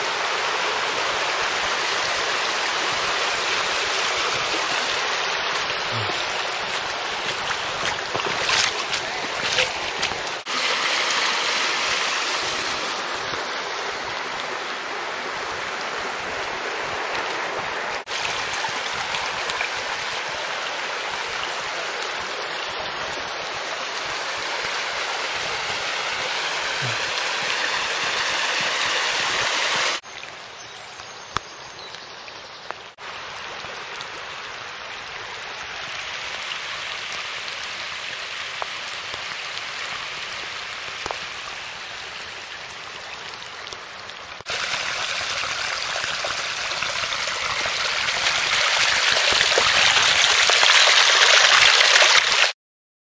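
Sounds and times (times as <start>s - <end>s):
floodwater rushing: 0.0s - 30.6s, 33.0s - 52.5s.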